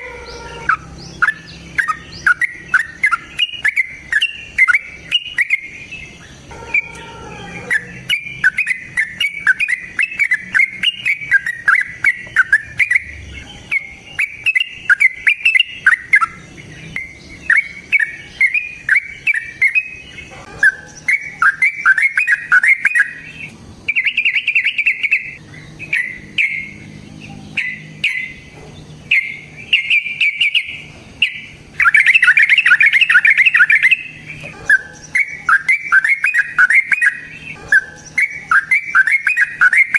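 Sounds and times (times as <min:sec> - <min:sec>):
songbird chirping and chattering: 0:00.0 - 0:39.9.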